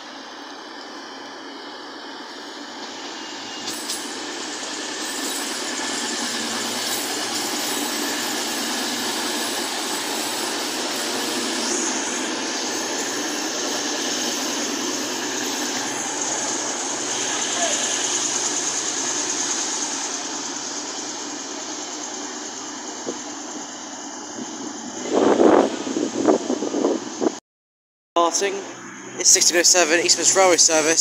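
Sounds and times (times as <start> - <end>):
high wheel squeal: 0.0 - 25.2
diesel train passing: 0.0 - 27.4, 28.2 - 31.0
lower squeal: 0.0 - 27.4, 28.2 - 31.0.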